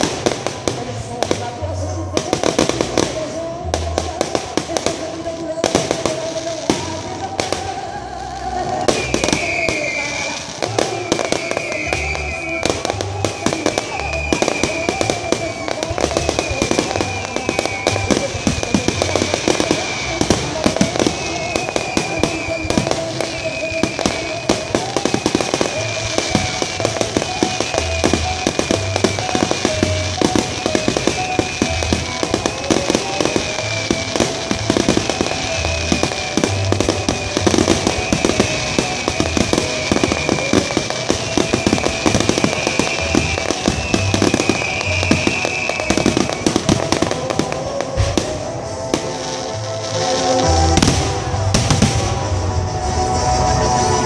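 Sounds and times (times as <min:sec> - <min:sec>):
fireworks bursts and crackling: 0:00.0 - 0:54.0
music with held tones: 0:00.0 - 0:54.0.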